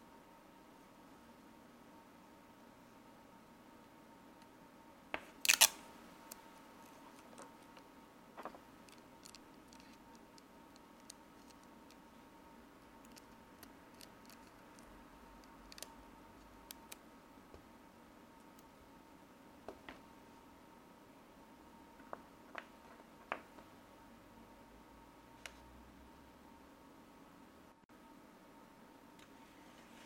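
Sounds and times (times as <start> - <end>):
faint steady whine: 0.0 - 30.0.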